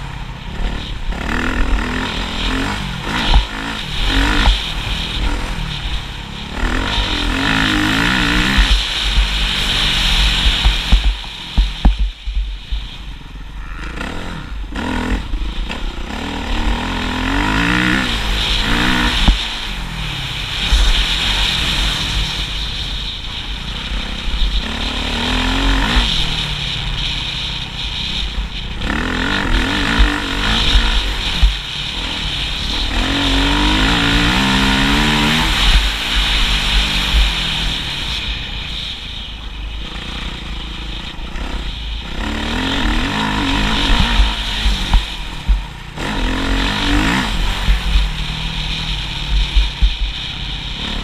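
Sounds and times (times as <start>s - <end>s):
motocross bike engine revving: 0.0s - 51.0s.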